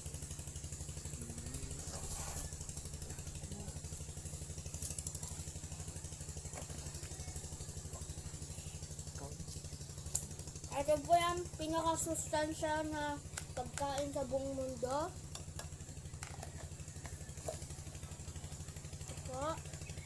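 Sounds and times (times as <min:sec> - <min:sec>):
small engine idling: 0:00.0 - 0:20.0.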